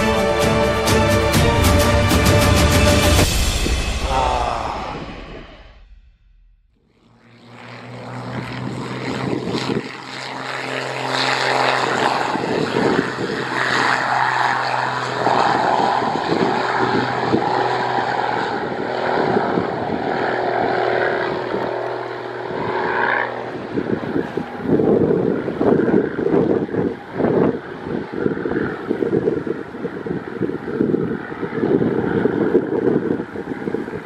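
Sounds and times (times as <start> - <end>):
jet engines whining: 0.0 - 34.0.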